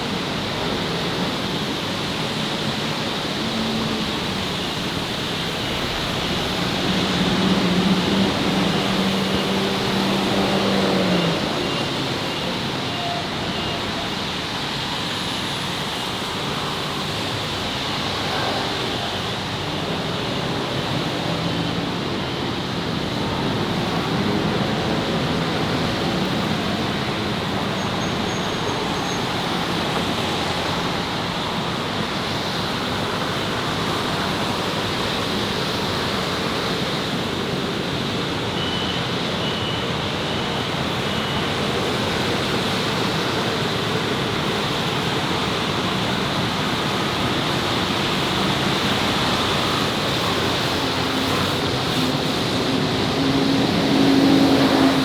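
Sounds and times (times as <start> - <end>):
traffic noise: 0.0 - 55.0.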